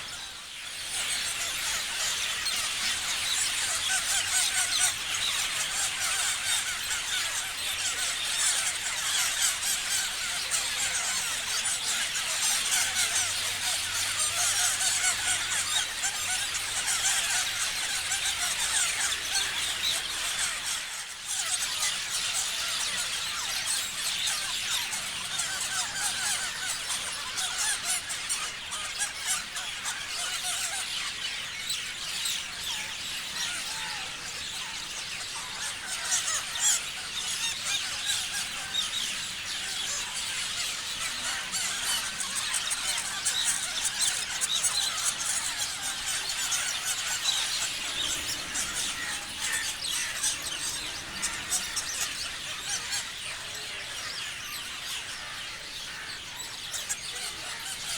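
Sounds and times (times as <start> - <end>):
parrots chirping and calling: 0.0 - 57.9.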